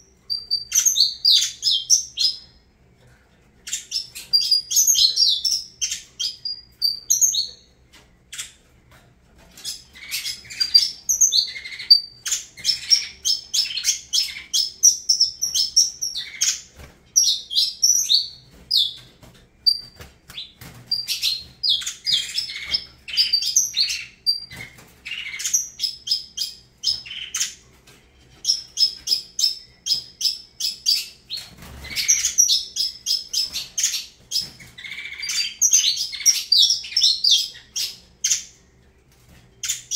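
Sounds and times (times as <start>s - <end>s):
finch singing chirps and trills: 0.0s - 2.6s, 3.6s - 8.7s, 9.4s - 38.6s, 39.5s - 39.9s.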